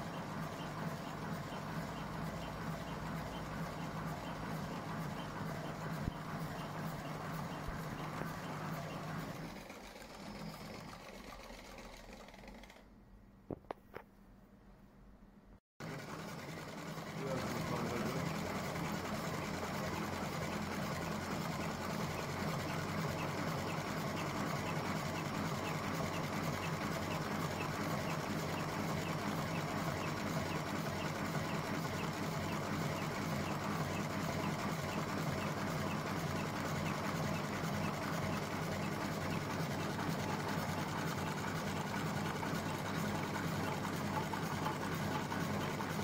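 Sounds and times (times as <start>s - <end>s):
machine motor humming: 0.0s - 12.8s, 15.8s - 46.0s.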